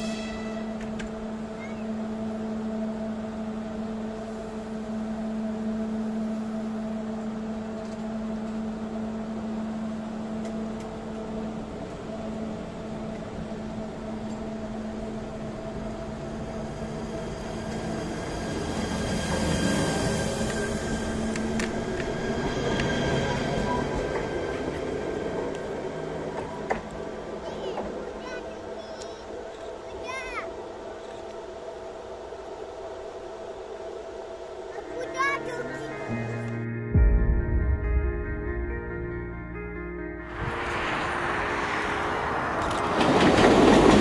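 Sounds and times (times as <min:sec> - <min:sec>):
train rumble: 0:00.0 - 0:44.0.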